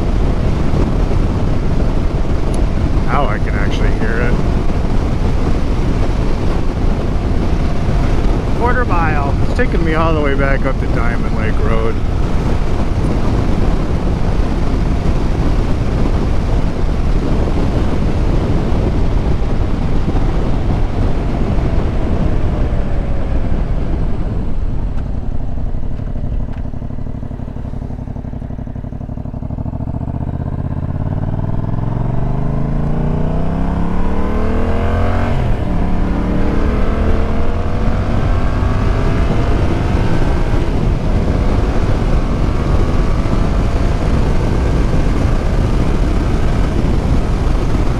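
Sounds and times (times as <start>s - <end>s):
motorcycle engine accelerating: 0.0s - 47.9s
wind and road noise: 0.0s - 47.9s.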